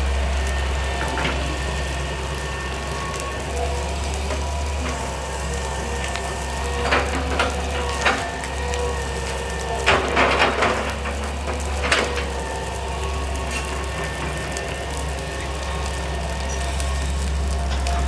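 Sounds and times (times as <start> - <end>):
low engine drone: 0.0 - 18.0
wood cracking and splintering: 0.5 - 18.0.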